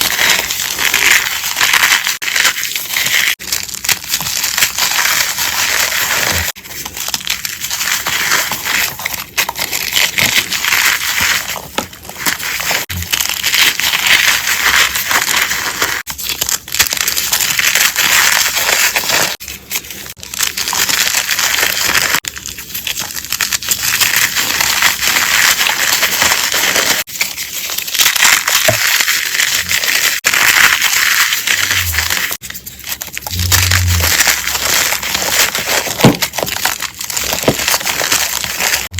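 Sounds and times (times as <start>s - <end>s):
chalk being crushed: 0.0s - 38.9s.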